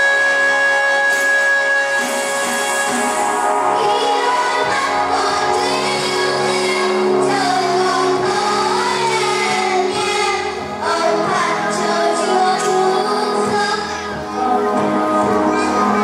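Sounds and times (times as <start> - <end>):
instrumental backing: 0.0 - 16.0
person singing: 0.0 - 16.0.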